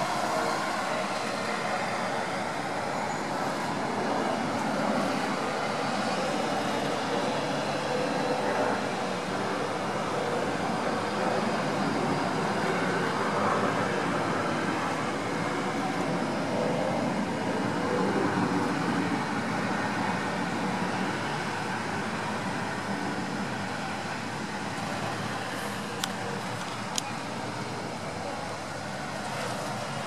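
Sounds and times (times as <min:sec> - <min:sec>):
town traffic rush: 0:00.0 - 0:30.0.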